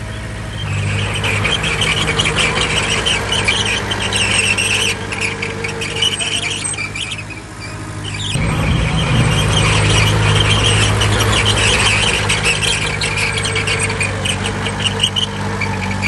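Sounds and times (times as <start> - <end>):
diesel engine running: 0.0 - 16.0
steel tracks squealing: 0.0 - 16.0.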